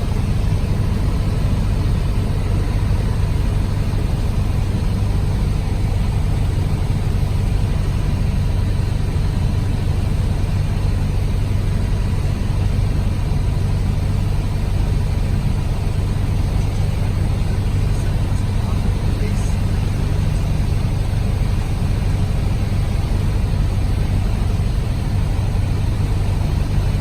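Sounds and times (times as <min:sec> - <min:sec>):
aircraft engine and propeller drone: 0:00.0 - 0:27.0.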